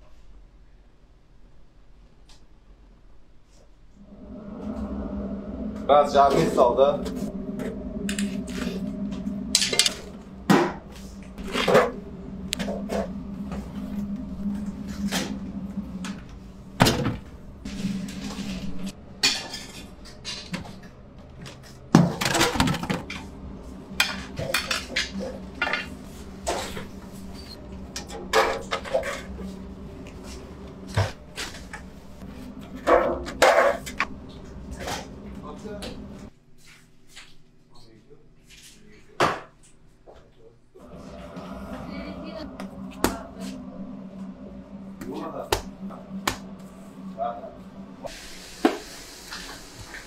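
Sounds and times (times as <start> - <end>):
steady low hum: 3.8 - 36.4, 40.8 - 50.0.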